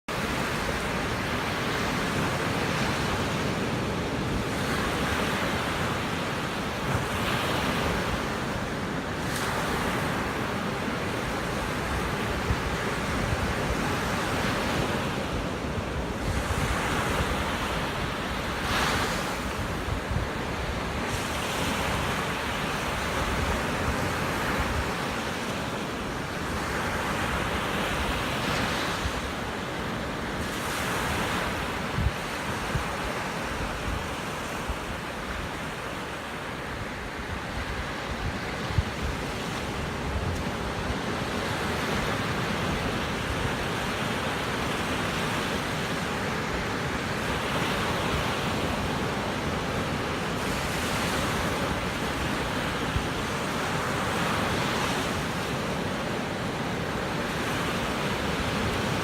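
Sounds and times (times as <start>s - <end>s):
surf breaking on a beach: 0.1s - 59.0s
wind rumble on microphone: 0.1s - 59.0s.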